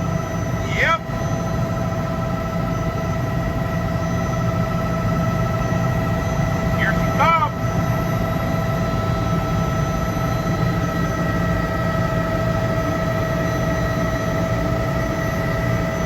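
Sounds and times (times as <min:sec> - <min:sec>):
helicopter flying: 0:00.0 - 0:16.0.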